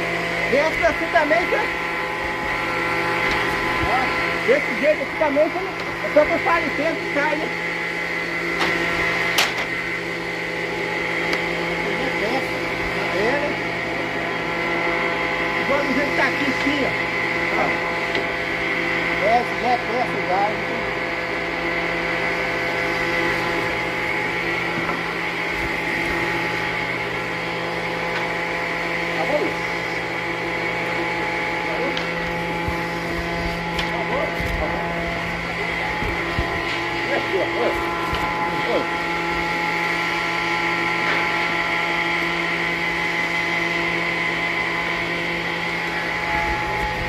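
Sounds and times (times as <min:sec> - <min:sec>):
sawmill machinery hum and whine: 0:00.0 - 0:47.0.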